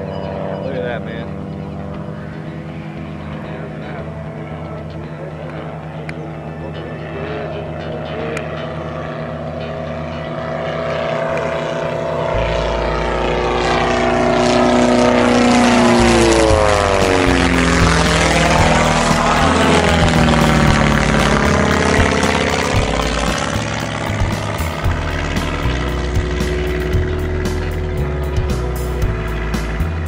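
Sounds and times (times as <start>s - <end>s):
biplane engine and propeller droning: 0.0s - 30.0s.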